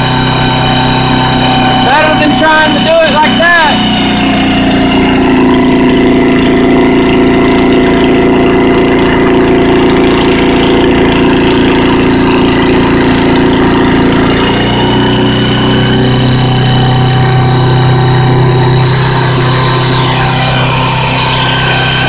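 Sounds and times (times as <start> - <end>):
hydraulic drill rig engine running: 0.0 - 22.0.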